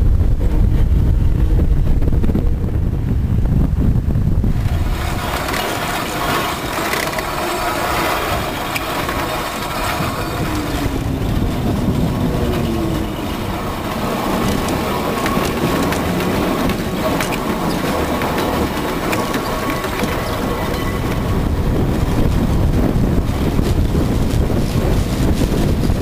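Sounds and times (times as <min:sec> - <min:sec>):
tram body rattling: 0:00.0 - 0:26.0
tram wheels clattering over rails: 0:04.0 - 0:26.0
wheel squeal: 0:04.5 - 0:26.0.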